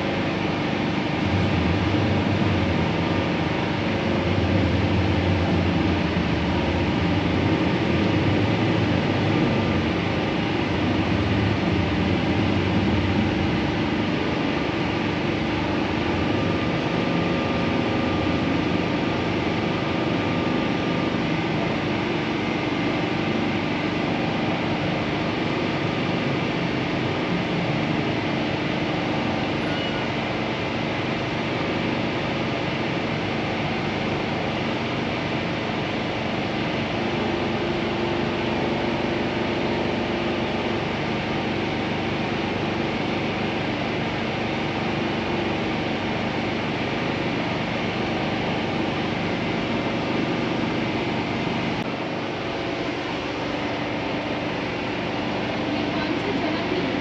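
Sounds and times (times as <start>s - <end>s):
steady background hum and hiss: 0.0s - 57.0s.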